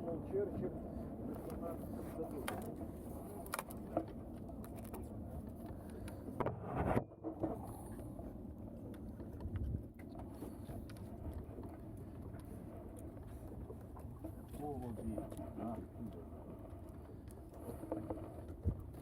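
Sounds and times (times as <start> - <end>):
motorboat rumbling: 0.0 - 19.0.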